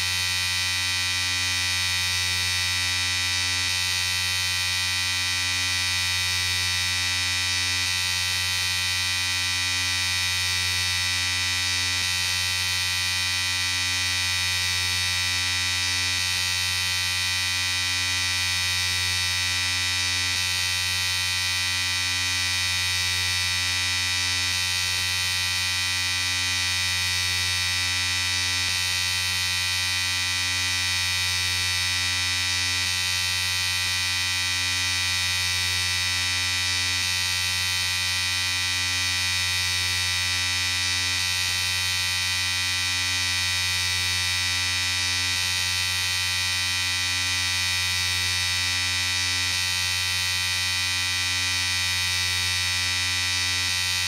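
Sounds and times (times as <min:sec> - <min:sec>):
electric shaver buzzing: 0:00.0 - 0:54.0.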